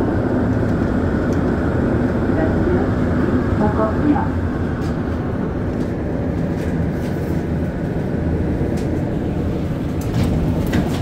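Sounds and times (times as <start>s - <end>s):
metro train running gear rumble: 0.0s - 11.0s.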